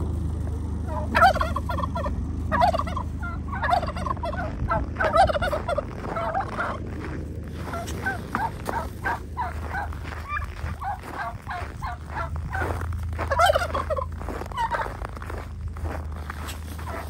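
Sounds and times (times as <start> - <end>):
steady low hum: 0.0 - 17.0
turkeys gobbling: 0.0 - 17.0.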